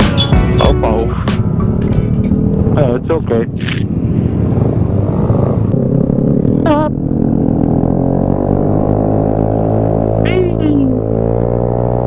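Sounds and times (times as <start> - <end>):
scooter engine droning: 0.0 - 12.0.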